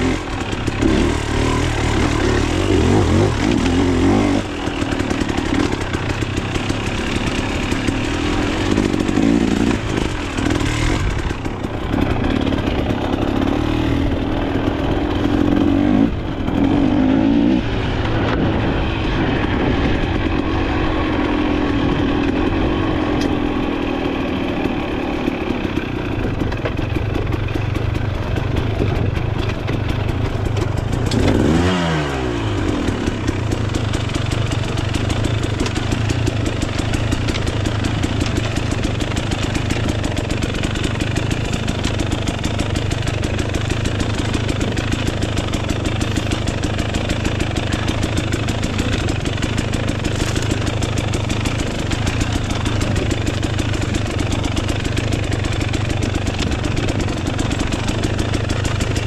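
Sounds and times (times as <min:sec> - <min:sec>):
dirt bike engine idling: 0:00.0 - 0:59.0.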